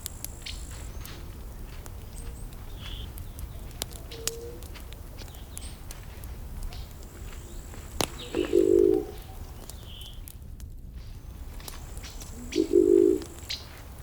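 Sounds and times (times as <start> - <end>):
birds chirping faintly: 0.0 - 13.9
burning wood crackling and popping: 0.0 - 14.0
steady low rumble: 0.0 - 14.0.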